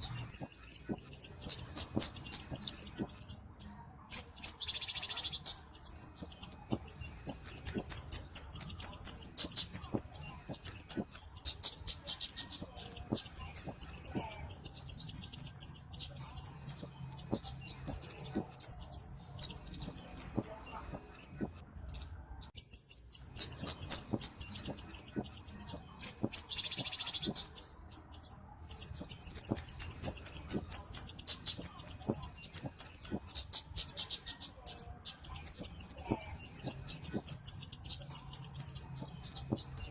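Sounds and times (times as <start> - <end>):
high-pitched bird chipping song: 0.0 - 39.9.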